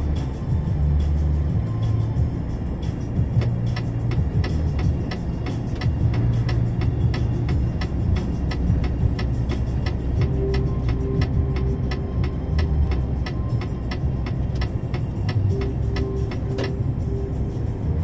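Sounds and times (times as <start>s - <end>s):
engine and road rumble: 0.0s - 18.0s
fast regular ticking: 1.4s - 18.0s.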